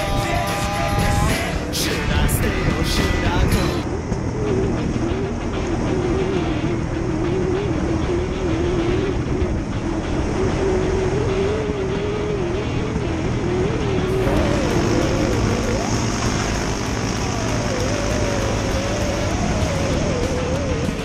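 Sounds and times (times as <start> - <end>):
off-road motorcycle engine revving: 0.0 - 21.0
wind and track noise: 0.0 - 21.0.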